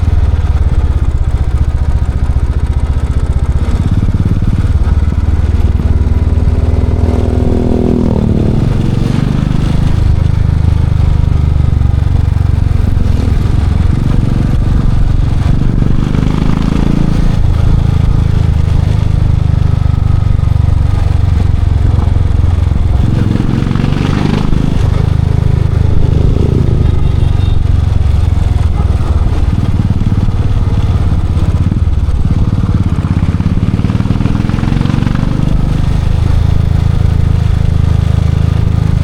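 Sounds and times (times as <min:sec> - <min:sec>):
motorcycle engine exhaust: 0:00.0 - 0:39.0.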